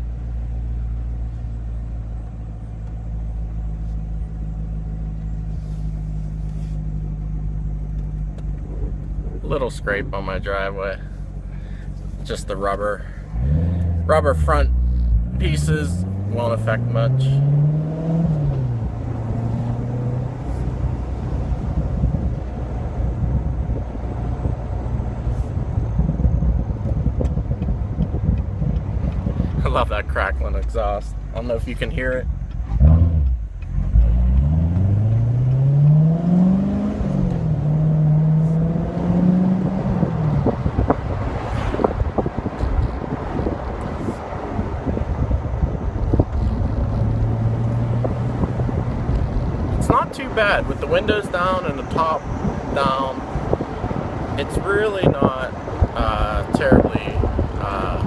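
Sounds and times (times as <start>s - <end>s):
car engine running at low revs: 0.0s - 58.0s.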